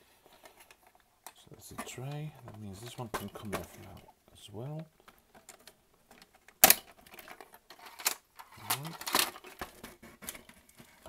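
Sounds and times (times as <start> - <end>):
plastic parts clicking and knocking: 0.2 - 11.0.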